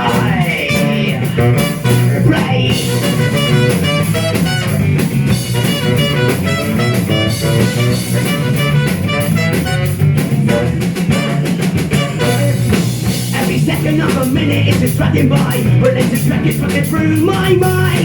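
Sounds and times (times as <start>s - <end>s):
drum kit: 0.0s - 18.0s
electric guitar: 0.0s - 18.0s.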